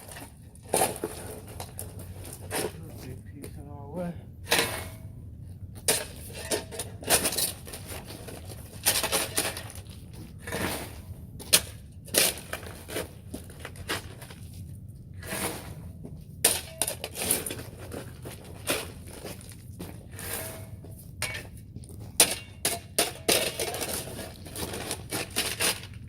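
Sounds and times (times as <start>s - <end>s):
shovel scraping gravel: 0.0s - 3.2s, 4.5s - 5.1s, 5.8s - 26.0s.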